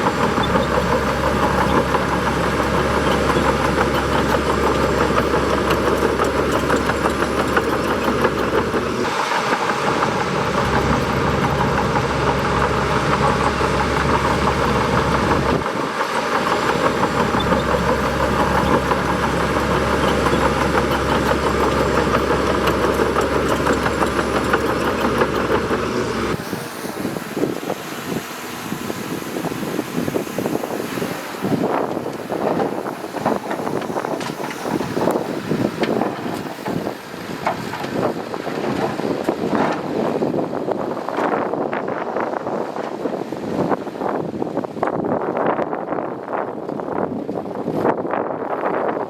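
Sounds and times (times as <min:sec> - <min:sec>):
bulldozer diesel engine running: 0:00.0 - 0:45.1.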